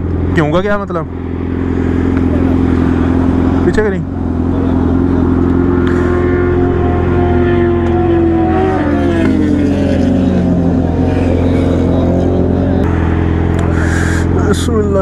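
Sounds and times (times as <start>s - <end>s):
motorcycle engines idling: 0.0s - 15.0s
vehicle passing on road: 0.0s - 15.0s.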